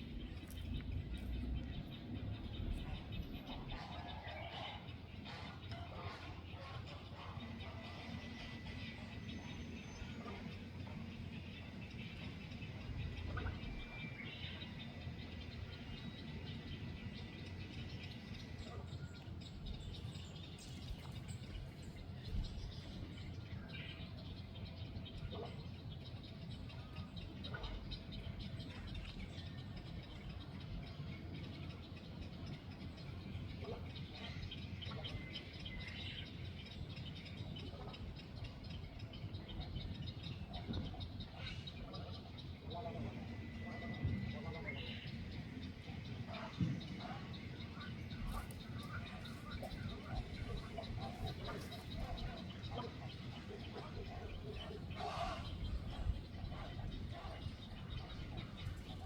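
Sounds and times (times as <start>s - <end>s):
low wind rumble: 0.0s - 59.0s
small birds chirping: 0.0s - 59.0s.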